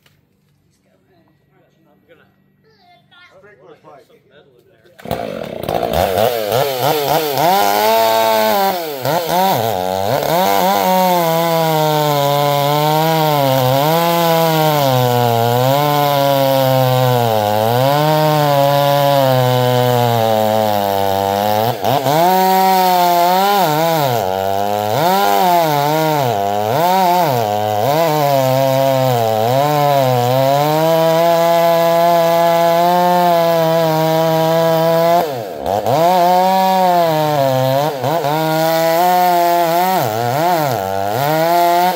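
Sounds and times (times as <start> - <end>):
chainsaw cutting wood: 5.0 - 41.9.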